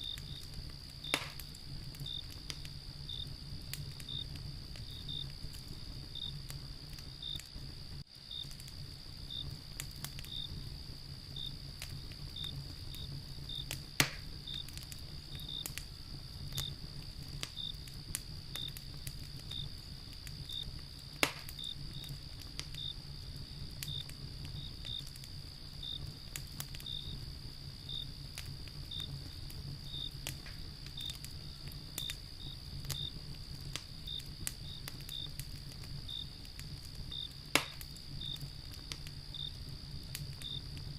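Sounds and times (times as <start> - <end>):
cricket chirping: 0.0 - 40.9
crickets trilling: 0.0 - 40.9
low rumble of flame: 0.0 - 40.9
wood fire crackling and popping: 0.0 - 40.9.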